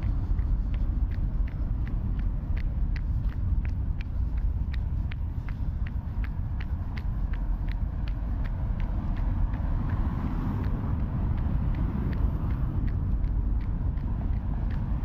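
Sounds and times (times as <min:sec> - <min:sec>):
low rumble of traffic: 0:00.0 - 0:15.0
running footsteps on wet street: 0:00.0 - 0:15.0
vehicle passing: 0:00.0 - 0:15.0.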